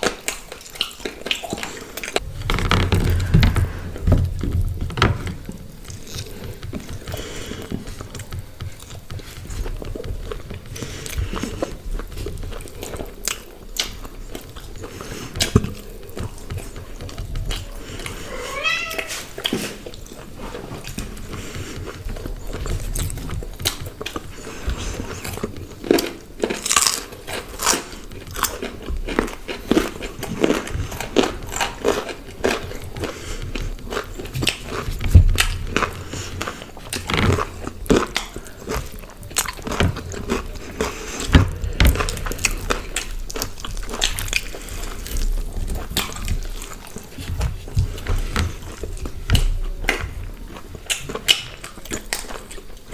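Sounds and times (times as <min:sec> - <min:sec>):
chewing food with crunches: 0:00.0 - 0:52.9.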